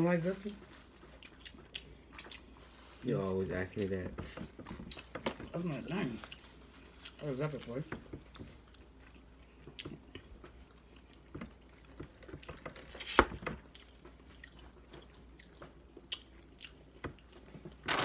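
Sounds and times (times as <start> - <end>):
people chewing food: 0.0 - 18.0.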